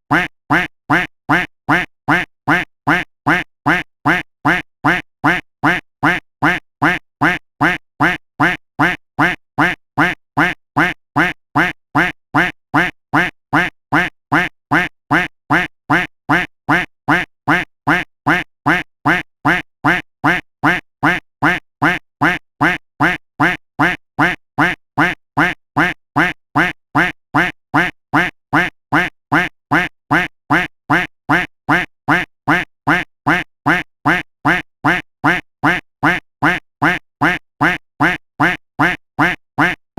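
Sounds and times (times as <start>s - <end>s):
duck quacking: 0.1s - 39.9s.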